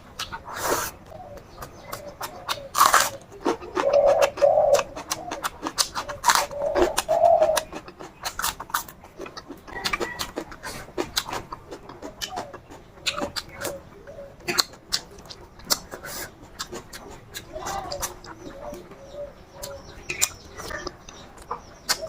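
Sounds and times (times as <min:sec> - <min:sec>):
wet chewing and lip smacking: 0:00.0 - 0:22.0.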